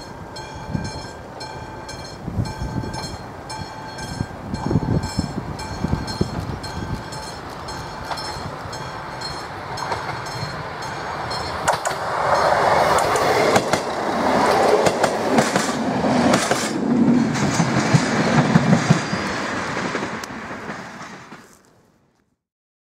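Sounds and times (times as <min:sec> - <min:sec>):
wheels clicking over rail joints: 0:00.0 - 0:21.8
diesel railcar passing: 0:00.0 - 0:22.2.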